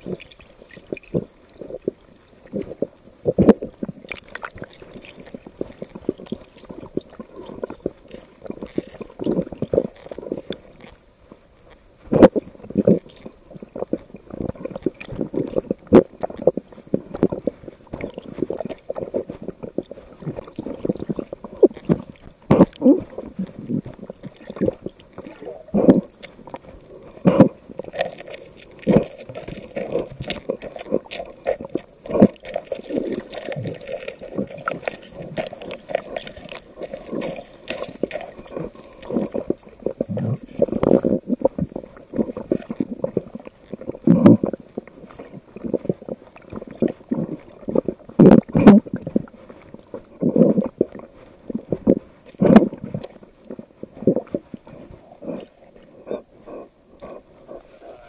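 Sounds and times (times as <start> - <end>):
underwater gurgling: 0.0 - 58.0.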